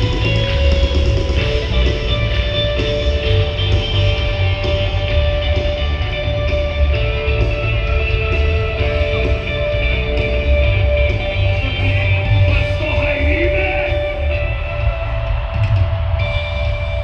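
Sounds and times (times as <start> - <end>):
bass and drums: 0.0 - 17.0
electric guitar: 0.0 - 17.0
live band playing: 0.0 - 17.0.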